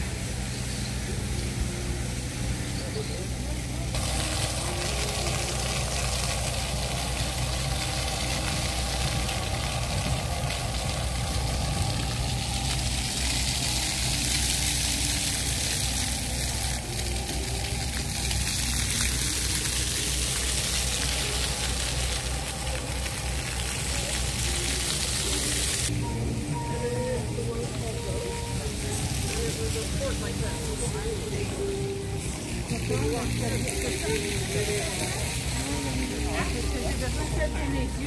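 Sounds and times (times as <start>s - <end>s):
fountain water splashing on paving: 0.0s - 38.0s.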